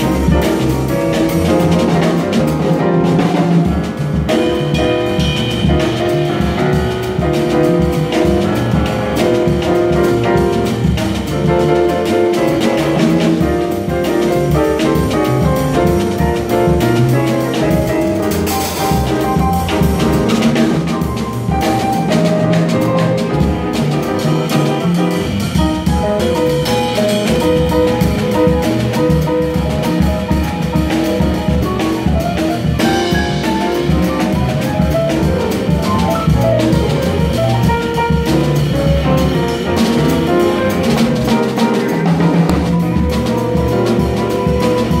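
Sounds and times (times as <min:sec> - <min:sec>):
drum kit with cymbals: 0:00.0 - 0:45.0
grand piano: 0:00.0 - 0:45.0
plucked double bass: 0:00.0 - 0:45.0.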